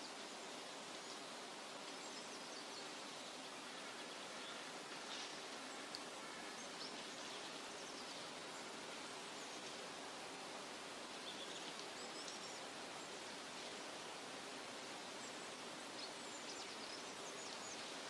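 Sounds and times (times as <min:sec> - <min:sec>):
steady forest hiss: 0:00.0 - 0:18.0.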